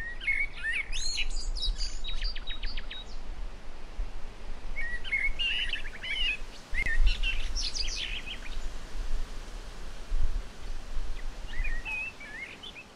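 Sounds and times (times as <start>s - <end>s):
songbirds chirping: 0.0s - 9.4s, 10.4s - 12.9s.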